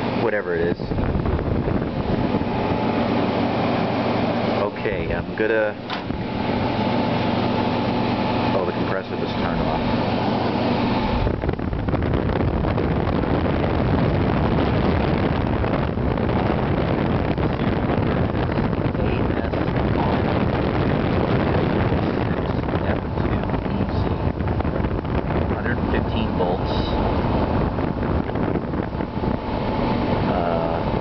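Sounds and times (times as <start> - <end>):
air conditioner fan blowing: 0.0 - 31.0.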